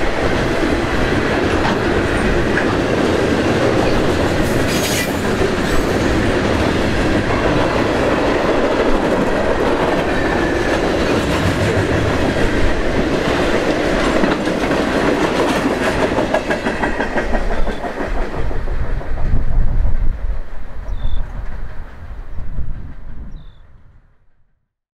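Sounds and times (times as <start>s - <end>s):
freight train wheels clickety-clack: 0.0s - 24.3s.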